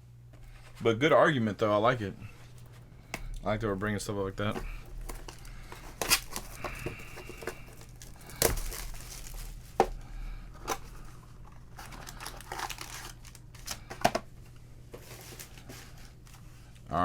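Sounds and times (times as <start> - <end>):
card pack wrappers crinkling and tearing: 2.5 - 14.3, 15.0 - 16.9.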